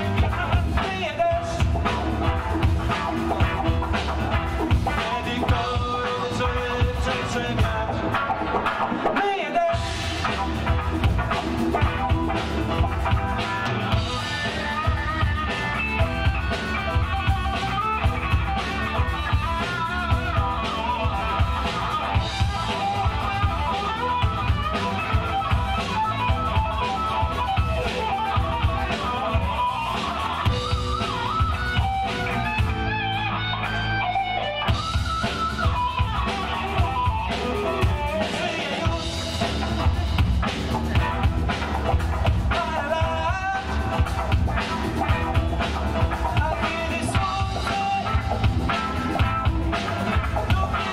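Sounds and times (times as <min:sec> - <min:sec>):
drum kit: 0:00.0 - 0:50.9
electric guitar lead: 0:00.0 - 0:50.9
rhythm guitar: 0:00.0 - 0:50.9.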